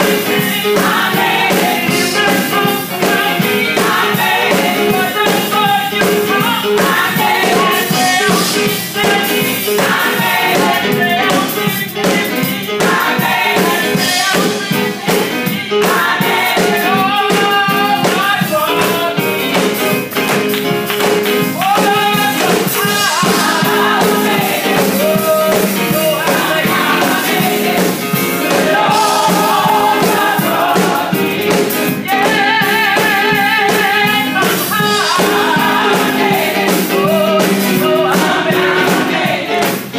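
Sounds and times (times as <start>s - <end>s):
gospel voices singing with band: 0.0s - 39.9s.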